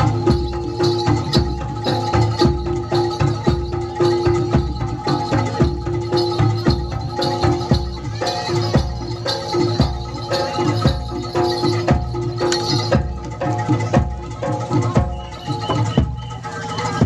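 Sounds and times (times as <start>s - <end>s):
drums in steady beat: 0.0s - 17.0s
struck metal mallet instruments: 0.0s - 17.0s.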